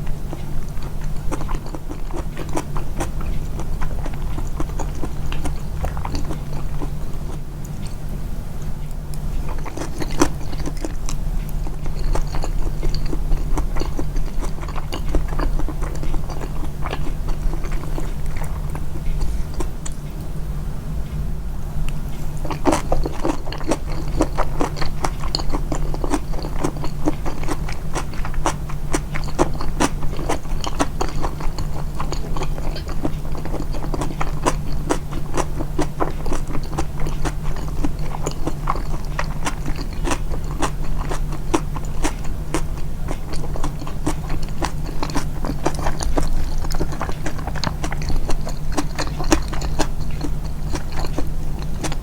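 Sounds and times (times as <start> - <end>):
chewing and biting food: 0.0 - 20.2, 21.9 - 52.0
low steady hum: 0.0 - 52.0.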